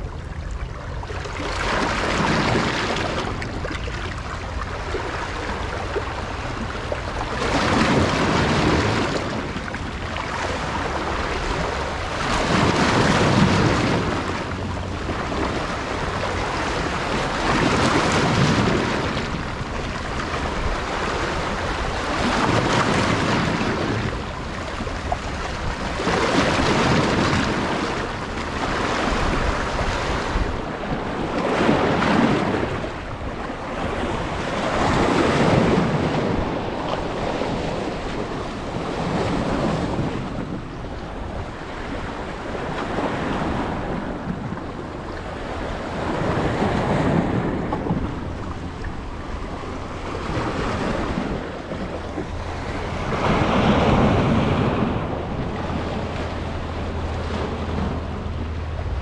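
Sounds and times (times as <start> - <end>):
waves washing: 0.0 - 59.0
wind: 0.0 - 59.0.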